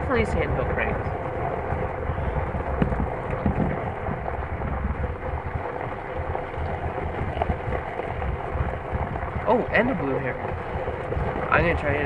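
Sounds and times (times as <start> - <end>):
engine low rumble inside cabin: 0.0 - 12.0
faint steady hum: 0.0 - 12.0.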